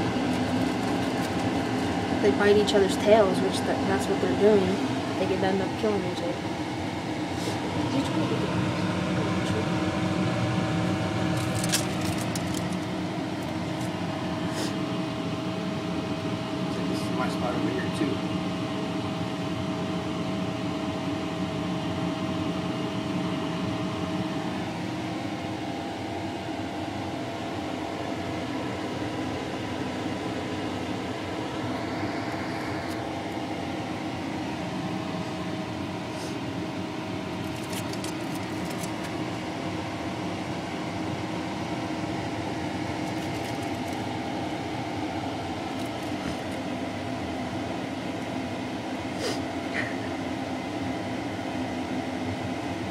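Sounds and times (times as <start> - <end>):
mechanical hum with faint tones: 0.0 - 52.9.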